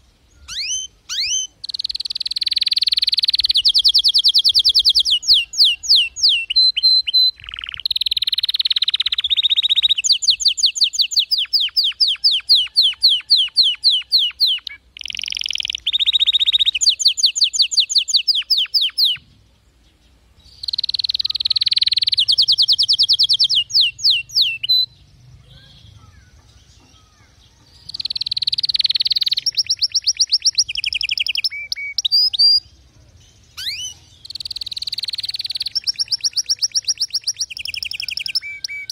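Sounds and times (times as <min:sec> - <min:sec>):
canary singing trills: 0:00.0 - 0:19.3, 0:19.9 - 0:38.9.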